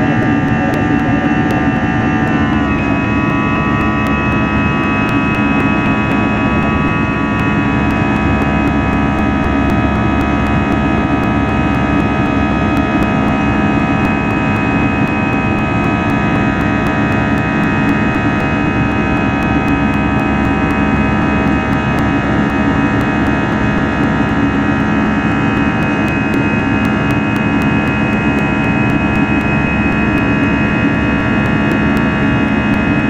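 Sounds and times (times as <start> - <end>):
jet engines roaring with whine: 0.0 - 33.0.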